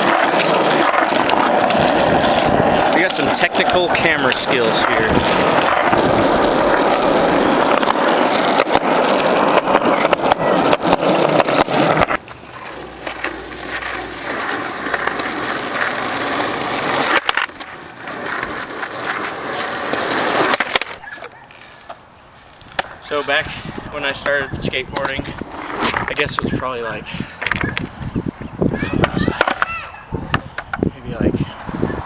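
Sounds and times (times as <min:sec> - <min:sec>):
skateboard clacks: 0:00.0 - 0:22.0, 0:22.6 - 0:23.2, 0:24.1 - 0:26.5, 0:27.4 - 0:28.0, 0:28.8 - 0:30.9
skateboard wheels rolling on concrete: 0:00.0 - 0:32.0.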